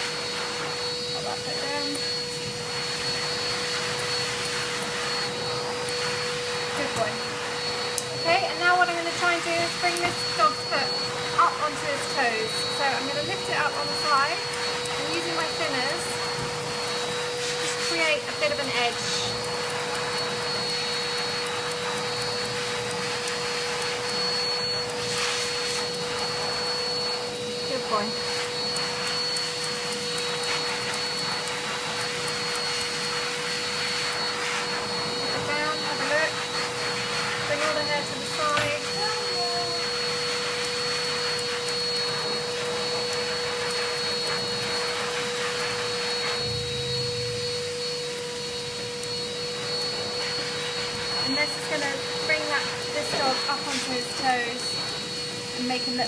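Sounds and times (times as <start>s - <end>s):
electric motor drone with whine: 0.0s - 56.0s.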